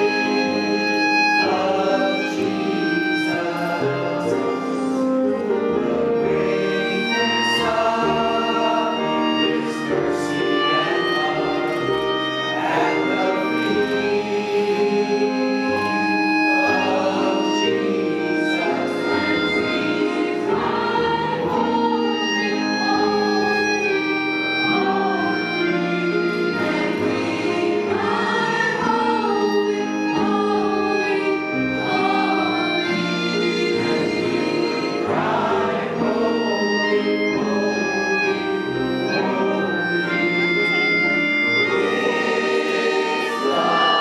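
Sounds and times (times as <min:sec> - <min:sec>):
accompanying instruments: 0:00.0 - 0:44.0
choir singing: 0:00.0 - 0:44.0.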